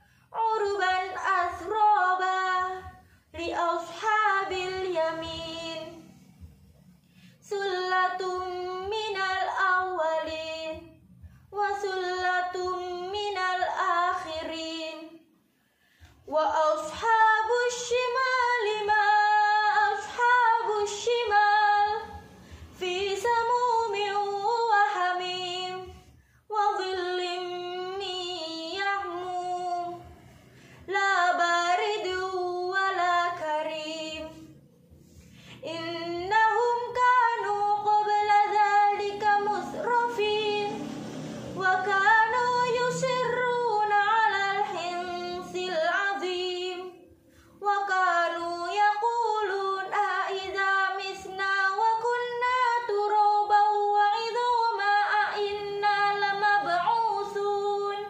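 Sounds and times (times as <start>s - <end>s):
woman reciting melodically: 0.0s - 15.3s, 16.2s - 58.0s.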